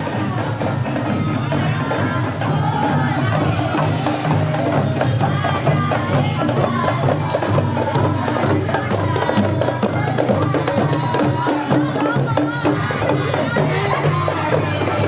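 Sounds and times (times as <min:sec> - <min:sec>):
jingles struck on a beat: 0:00.8 - 0:15.0.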